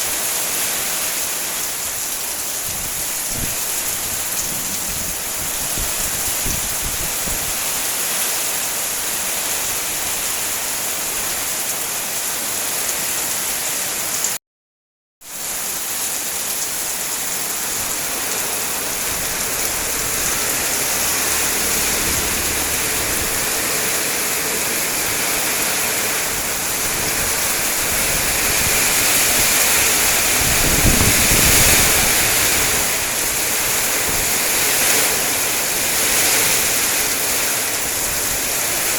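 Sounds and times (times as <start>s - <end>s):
heavy rain pouring: 0.0s - 14.4s, 15.3s - 38.9s.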